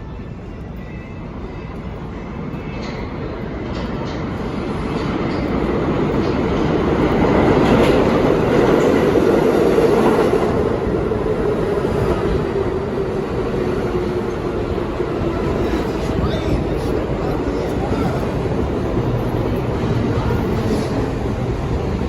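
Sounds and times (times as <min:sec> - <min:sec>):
subway train wheels rumbling on rails: 0:00.0 - 0:22.0.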